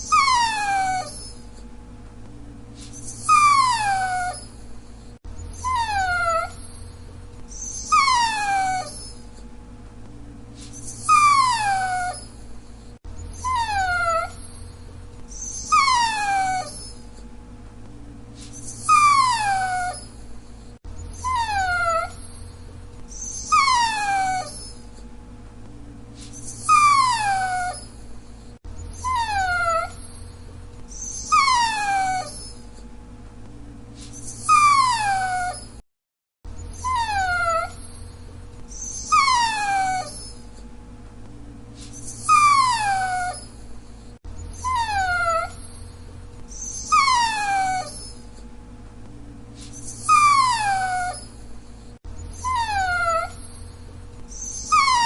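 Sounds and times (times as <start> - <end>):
dog whining: 0.0 - 1.7, 2.8 - 9.5, 10.6 - 17.3, 18.4 - 25.1, 26.2 - 32.9, 34.0 - 35.8, 36.5 - 40.7, 41.8 - 48.5, 49.6 - 55.0.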